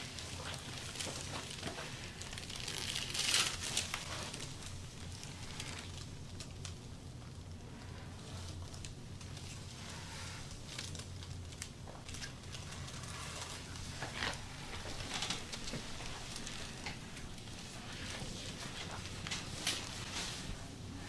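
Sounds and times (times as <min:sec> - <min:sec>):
low steady hum: 0:00.0 - 0:21.0
rustling: 0:00.0 - 0:21.0.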